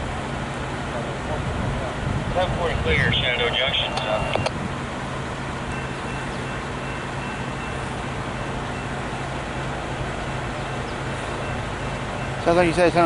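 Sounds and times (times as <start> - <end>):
diesel locomotive engine drone: 0.0 - 13.0
train rumble: 0.0 - 13.0.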